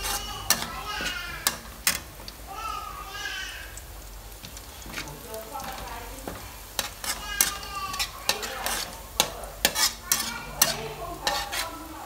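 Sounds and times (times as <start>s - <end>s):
spatula scraping a steel wok: 0.0s - 2.1s, 4.4s - 12.0s
oil sizzling: 0.0s - 12.0s.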